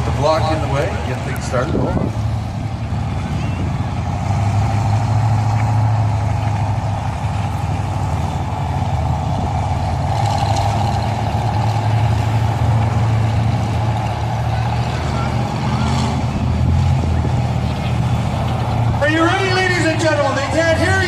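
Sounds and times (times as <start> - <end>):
truck engines rumbling: 0.0 - 21.0.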